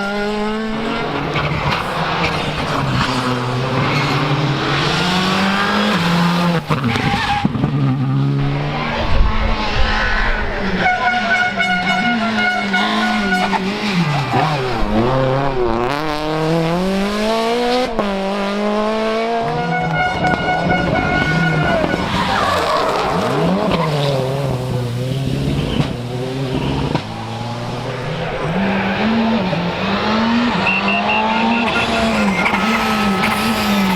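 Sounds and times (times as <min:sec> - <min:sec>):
car engine revving hard: 0:00.0 - 0:33.9
tyres squealing and skidding: 0:00.1 - 0:09.0, 0:09.6 - 0:15.8, 0:19.3 - 0:33.9.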